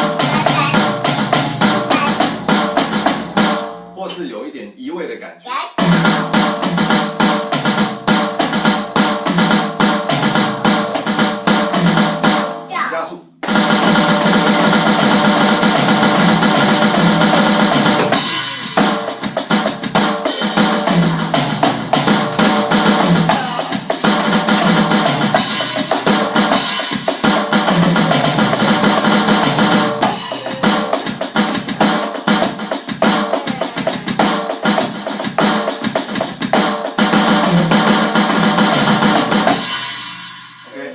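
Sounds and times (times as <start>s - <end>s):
bass drum: 0.0s - 4.2s, 5.8s - 12.6s, 13.4s - 40.3s
snare and tom drum fills: 0.0s - 4.2s, 5.8s - 12.6s, 13.4s - 40.6s.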